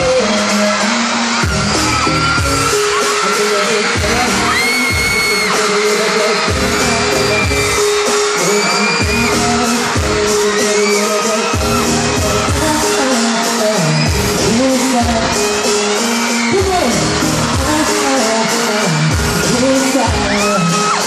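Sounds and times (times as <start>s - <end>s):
man singing into microphone: 0.0s - 1.4s, 2.4s - 21.0s
fans screaming: 0.0s - 21.0s
pop backing track with beat: 0.0s - 21.0s.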